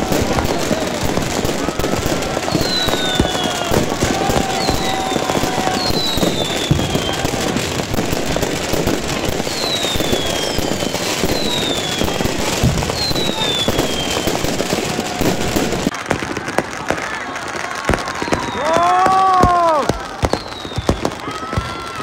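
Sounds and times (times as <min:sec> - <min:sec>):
firecrackers crackling and popping: 0:00.0 - 0:22.0
fireworks whistles: 0:00.0 - 0:22.0.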